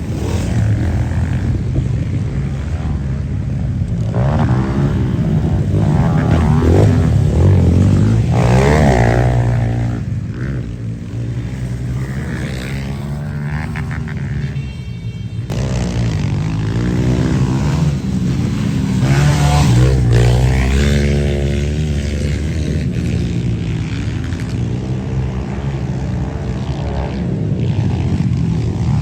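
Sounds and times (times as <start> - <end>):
engines revving: 0.0 - 14.8, 15.4 - 29.0.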